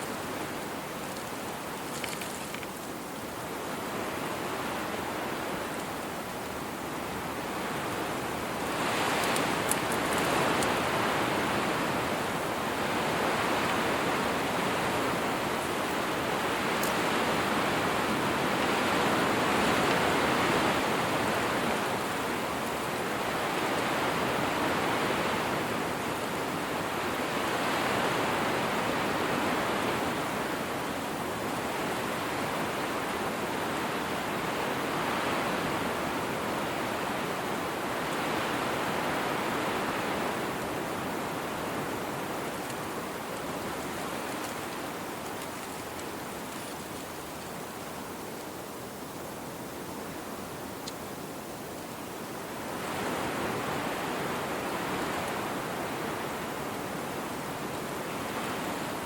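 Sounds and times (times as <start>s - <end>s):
wind blowing in gusts: 0.0s - 59.0s.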